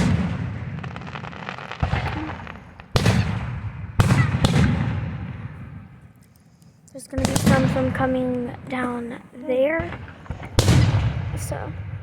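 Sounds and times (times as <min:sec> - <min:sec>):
fireworks bursting with bangs: 0:00.0 - 0:06.1, 0:07.1 - 0:12.0.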